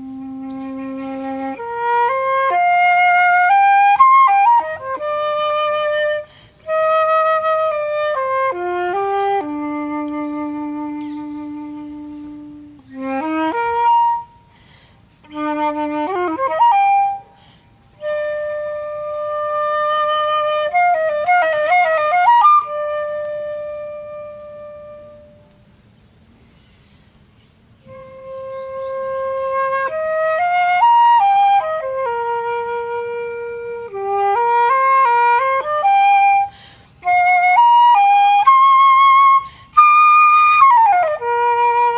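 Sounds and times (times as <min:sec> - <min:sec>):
solo flute melody: 0:00.0 - 0:25.6, 0:27.8 - 0:41.9.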